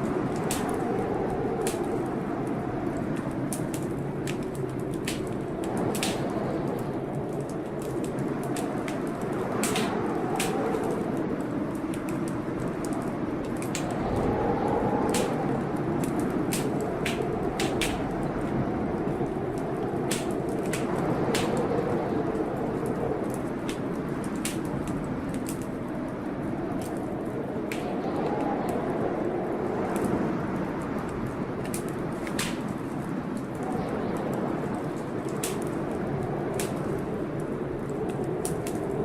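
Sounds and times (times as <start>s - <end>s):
storm noise: 0.0s - 39.0s
wood fire crackling: 0.0s - 39.0s.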